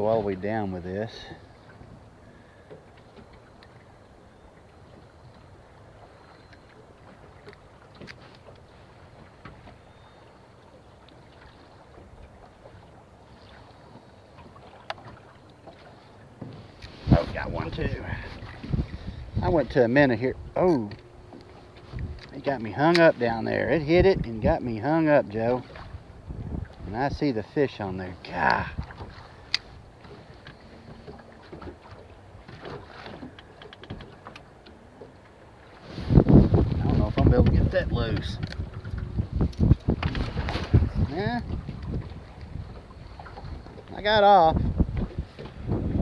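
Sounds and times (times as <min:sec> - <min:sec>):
faint wind: 0:00.0 - 0:46.0
water lapping: 0:00.0 - 0:46.0.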